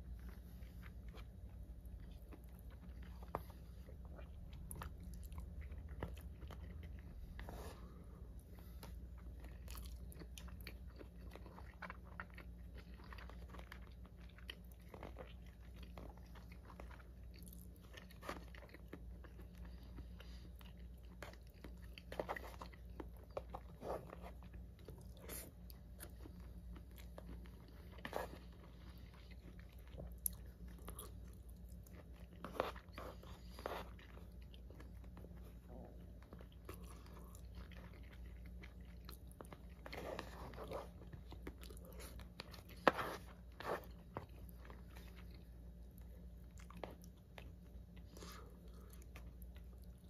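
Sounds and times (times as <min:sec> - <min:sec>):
steady low hum: 0:00.0 - 0:50.0
wet chewing: 0:00.0 - 0:50.0.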